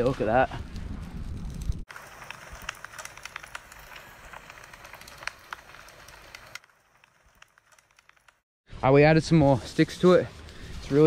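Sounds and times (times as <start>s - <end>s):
campfire crackling: 0.0s - 8.5s, 9.4s - 11.0s.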